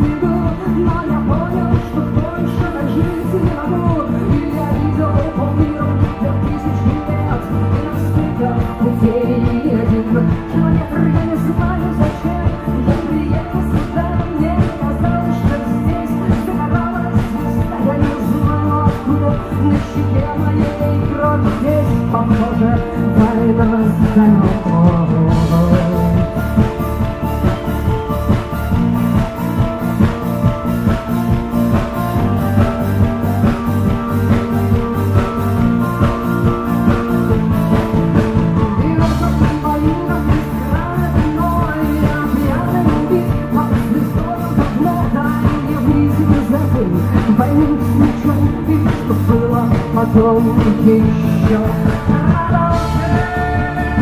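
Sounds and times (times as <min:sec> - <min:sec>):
acoustic-electric guitar: 0:00.0 - 0:54.0
live rock band playing: 0:00.0 - 0:54.0
steady drum beat: 0:00.0 - 0:54.0
woman singing: 0:00.0 - 0:54.0.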